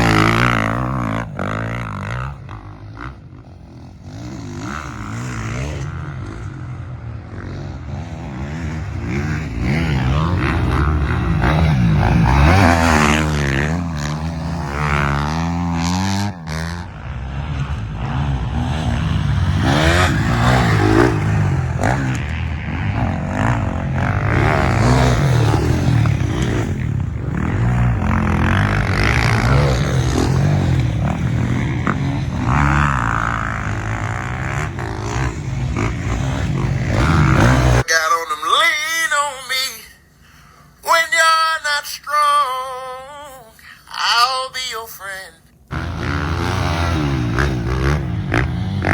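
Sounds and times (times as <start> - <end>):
motocross bike engines revving: 0.0 - 41.8, 45.6 - 48.9.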